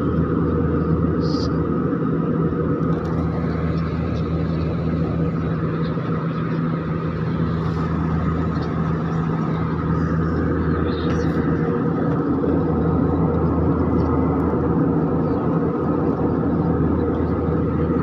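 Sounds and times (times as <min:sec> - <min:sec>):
airliner cabin drone: 0:00.0 - 0:18.0.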